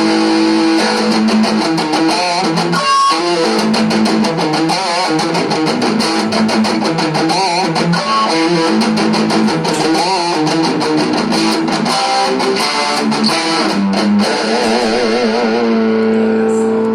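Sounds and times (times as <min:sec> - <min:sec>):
electric guitar lead notes: 0:00.0 - 0:16.9.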